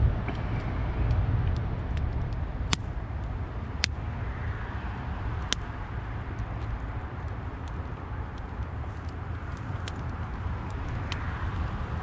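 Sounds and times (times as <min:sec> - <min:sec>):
campfire crackling and popping: 0:00.0 - 0:12.0
steady low rumble: 0:00.0 - 0:12.0.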